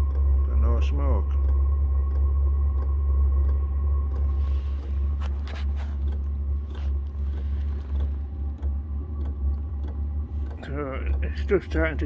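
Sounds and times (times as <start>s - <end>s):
fan whine: 0.0s - 12.0s
heater combustion rumble: 0.0s - 12.0s
sharp clicks: 0.0s - 12.0s.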